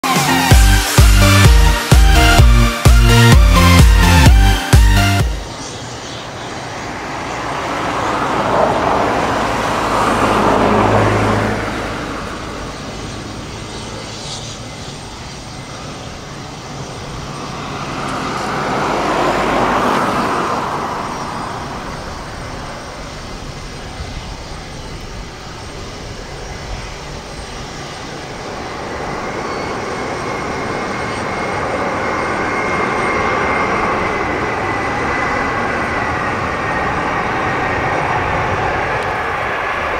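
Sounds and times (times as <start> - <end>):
jet engines roaring: 0.0 - 39.9
thin high engine whine: 0.0 - 39.9.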